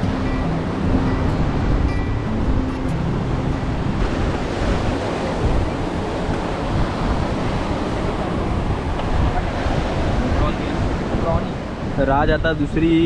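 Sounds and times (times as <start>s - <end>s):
sea waves and surf: 0.0s - 13.0s
wind buffeting microphone: 0.0s - 13.0s.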